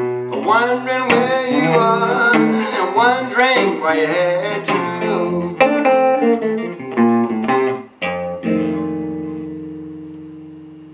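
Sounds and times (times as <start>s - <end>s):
solo guitar notes and chords: 0.0s - 10.9s.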